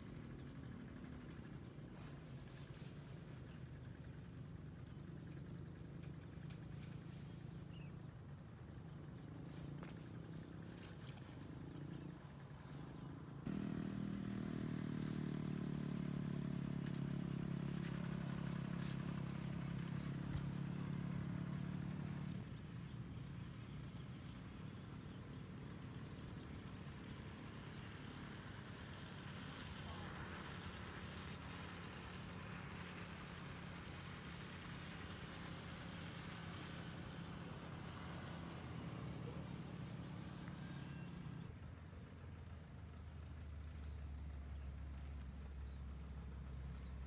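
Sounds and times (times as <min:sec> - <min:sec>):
high insect trill: 0:00.0 - 0:41.5
engine hum: 0:00.0 - 0:47.0
faint outdoor ambience: 0:00.0 - 0:47.0.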